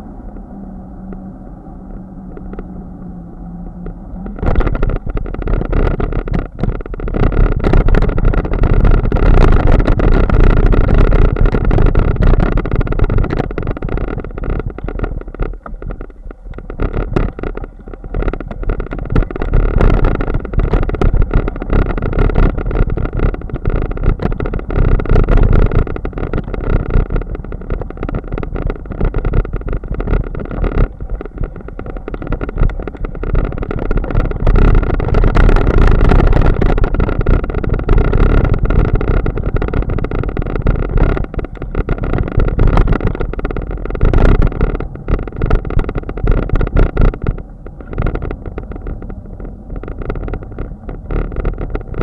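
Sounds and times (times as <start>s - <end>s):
wind rumble on camera: 0.0s - 52.0s.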